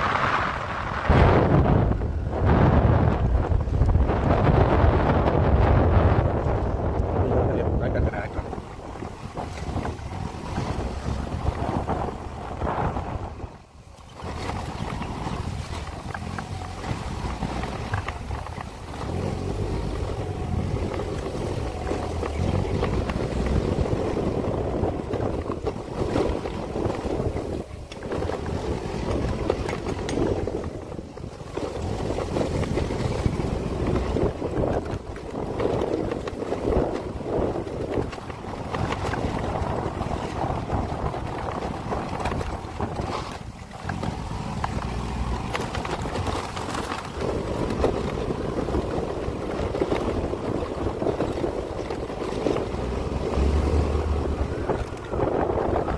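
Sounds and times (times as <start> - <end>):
vehicle rumble on road: 0.0 - 55.9
wind buffeting microphone: 0.0 - 55.9.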